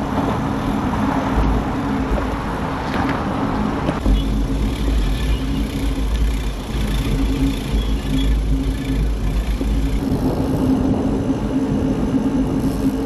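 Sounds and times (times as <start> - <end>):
vehicle engine drone: 0.0 - 13.0
wind rumble on microphone: 0.0 - 13.0.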